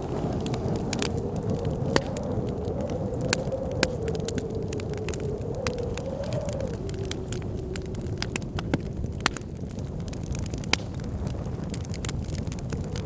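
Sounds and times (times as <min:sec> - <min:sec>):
blizzard wind howling: 0:00.0 - 0:13.0
steady low rumble: 0:00.0 - 0:13.0
wood fire crackling and popping: 0:00.0 - 0:13.0.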